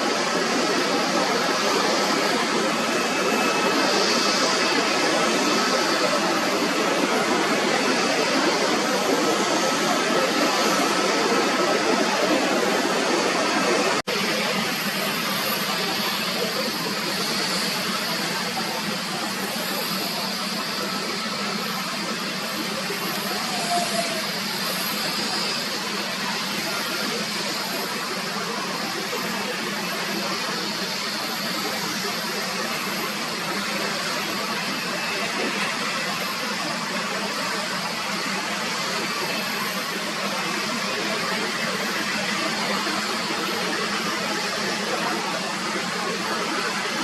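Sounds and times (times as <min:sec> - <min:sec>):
jet engines rushing: 0:00.0 - 0:47.0.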